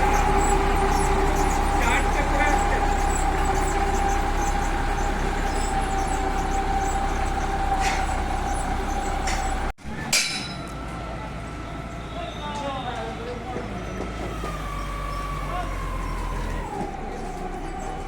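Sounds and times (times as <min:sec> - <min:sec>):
heavy vehicle engine whining: 0:00.0 - 0:18.0.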